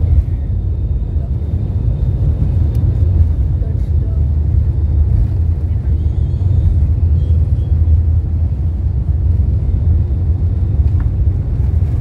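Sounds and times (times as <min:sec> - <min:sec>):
jet engines and wheels rumbling: 0:00.0 - 0:12.0.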